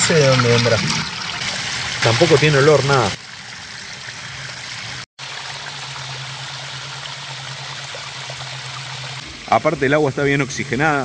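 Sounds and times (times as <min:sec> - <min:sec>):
stream water splashing into pool: 0:00.0 - 0:09.5.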